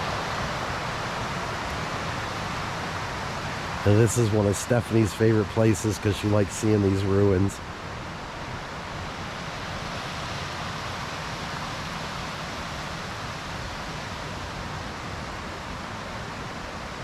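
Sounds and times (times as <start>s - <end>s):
mountain creek rushing: 0.0s - 17.0s.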